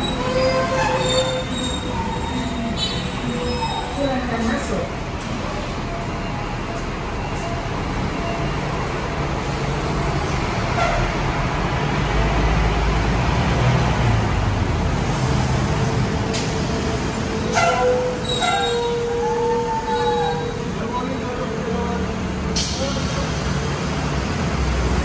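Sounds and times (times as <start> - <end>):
bus engine rumbling: 0.0 - 25.0
street traffic noise: 0.0 - 25.0.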